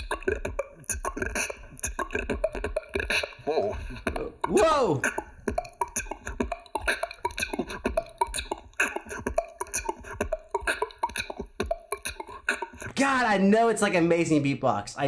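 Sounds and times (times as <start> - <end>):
person beatboxing: 0.0 - 13.4.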